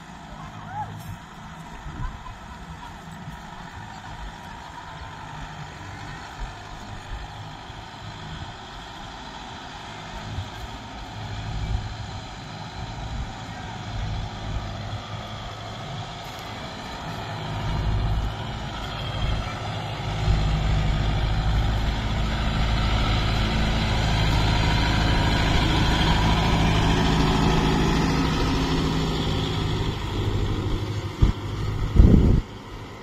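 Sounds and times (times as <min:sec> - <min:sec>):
tractor diesel engine under load: 0:00.0 - 0:33.0.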